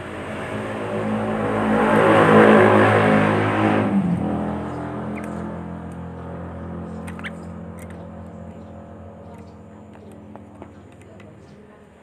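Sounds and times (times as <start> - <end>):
motor vehicle passing by: 0.0 - 11.5.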